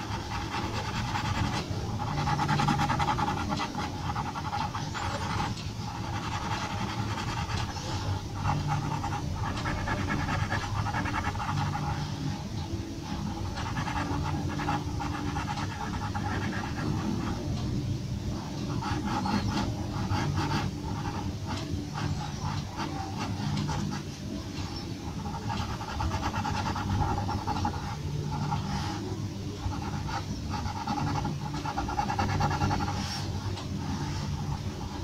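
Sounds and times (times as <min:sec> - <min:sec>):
pencil scratching on paper: 0:00.0 - 0:12.3, 0:13.0 - 0:17.5, 0:18.4 - 0:24.2, 0:25.1 - 0:35.0.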